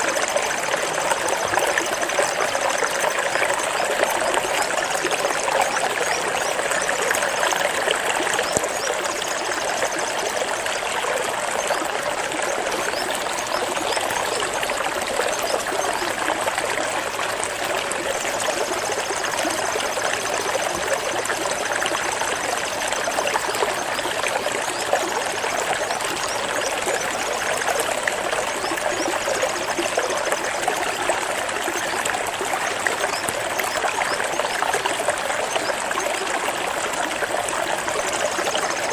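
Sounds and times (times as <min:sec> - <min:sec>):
water flowing and trickling: 0:00.0 - 0:38.9.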